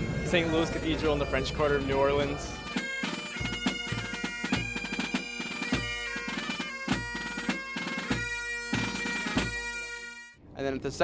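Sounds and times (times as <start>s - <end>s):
bagpipes playing a tune: 0.0s - 10.4s.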